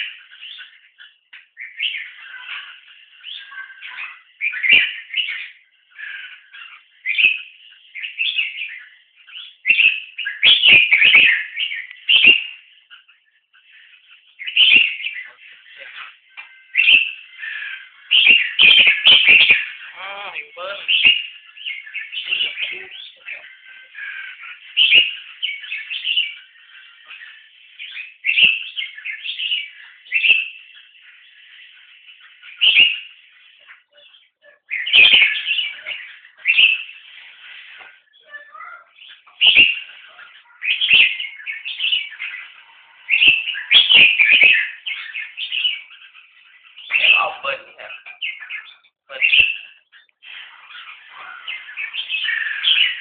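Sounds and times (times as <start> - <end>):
birds chirping and calling: 0.0 - 53.0.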